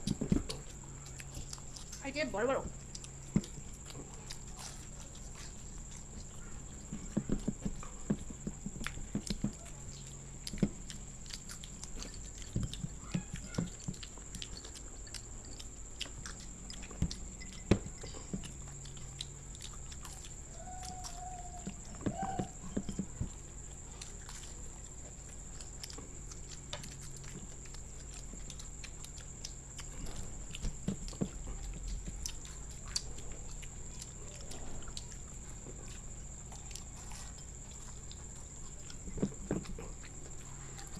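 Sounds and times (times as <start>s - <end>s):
people crunching and chewing: 0.0s - 40.9s.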